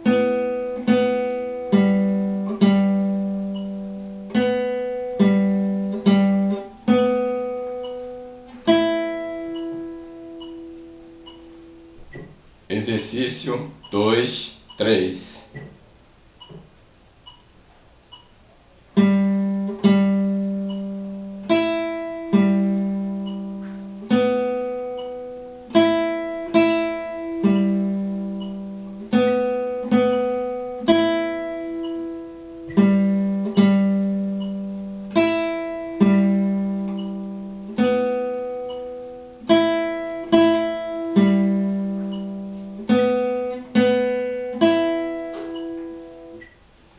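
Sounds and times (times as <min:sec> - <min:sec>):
fingerstyle classical guitar: 0:00.0 - 0:12.4, 0:18.9 - 0:46.6.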